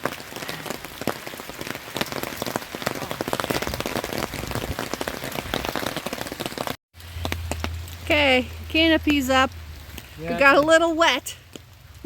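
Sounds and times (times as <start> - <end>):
raindrops pattering on surface: 0.0 - 12.0
steady rain: 0.0 - 12.0.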